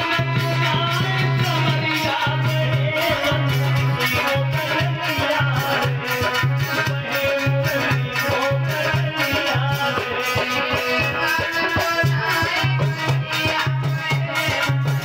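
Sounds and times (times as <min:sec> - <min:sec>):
jingling percussion: 0:00.0 - 0:15.0
repeating drum beat: 0:00.0 - 0:15.0.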